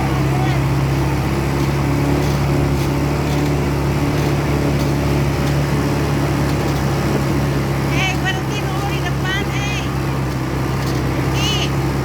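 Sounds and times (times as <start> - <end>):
atv engine droning steadily: 0.0 - 12.0.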